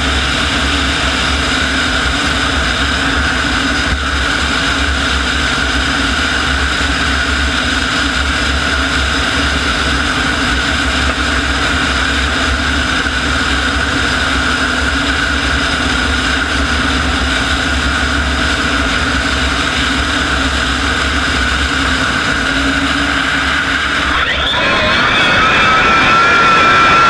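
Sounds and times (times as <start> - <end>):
turbine engine idling: 0.0 - 27.0.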